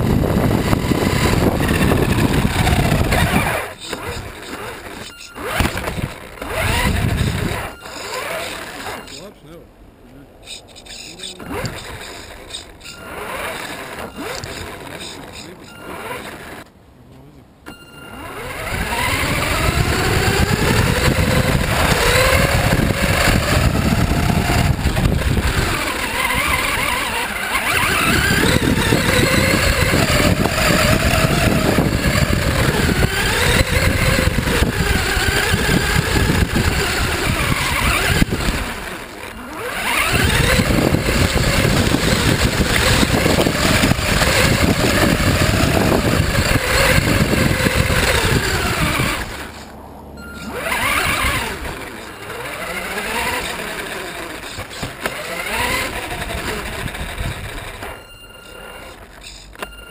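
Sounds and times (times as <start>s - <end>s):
toy car motor whining: 0.0s - 9.4s, 10.4s - 16.7s, 17.7s - 59.9s
wheels and wind rumble: 0.0s - 59.9s.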